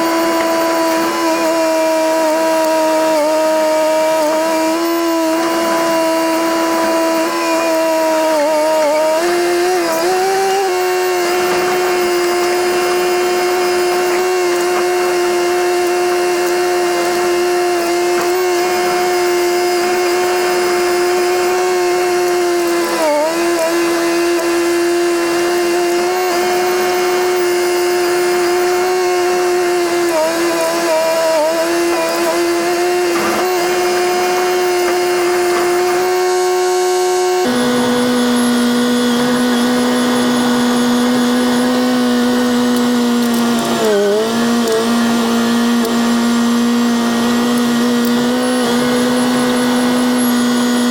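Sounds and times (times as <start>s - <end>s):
bulldozer diesel engine revving: 0.0s - 50.9s.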